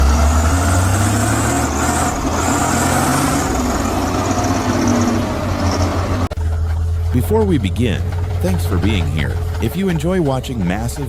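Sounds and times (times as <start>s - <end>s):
heavy truck engine humming: 0.0s - 11.0s.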